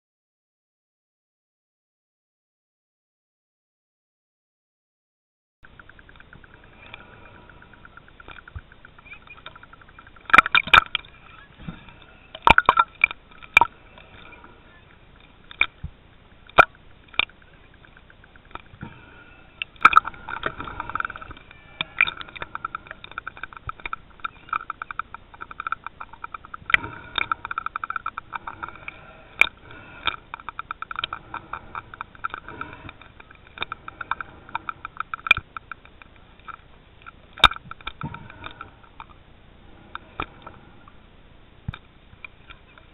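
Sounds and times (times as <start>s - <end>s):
underwater clicks and knocks: 5.7s - 39.2s, 41.6s - 42.9s
fast buzzing rattle underwater: 5.7s - 42.9s.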